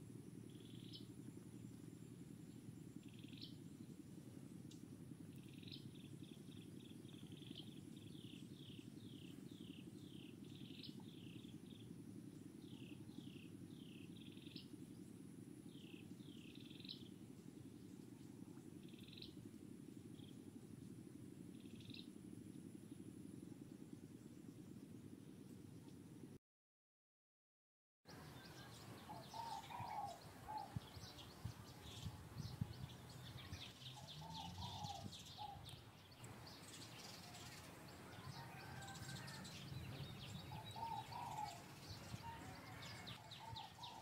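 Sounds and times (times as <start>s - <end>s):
steady low hum: 0.0s - 26.4s, 28.1s - 44.0s.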